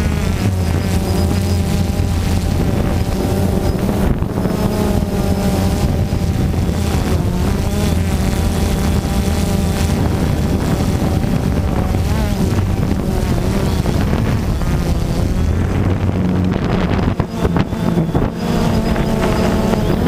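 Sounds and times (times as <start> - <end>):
drone propellers buzzing: 0.0 - 20.0
wind noise on microphone: 0.0 - 20.0.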